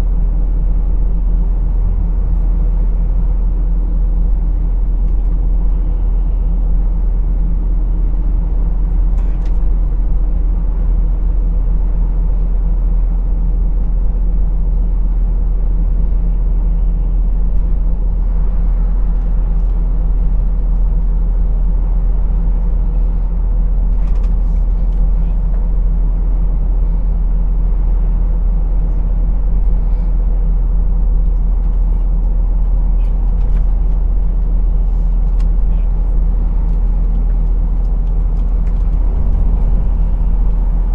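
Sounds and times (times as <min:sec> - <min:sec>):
truck engine drone from cab: 0:00.0 - 0:40.9.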